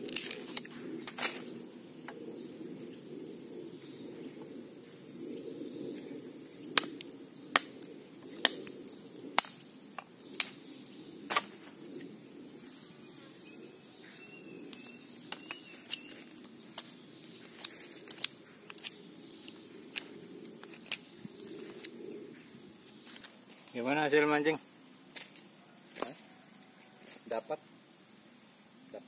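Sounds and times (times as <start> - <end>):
high-pitched insect drone: 0.0 - 29.0.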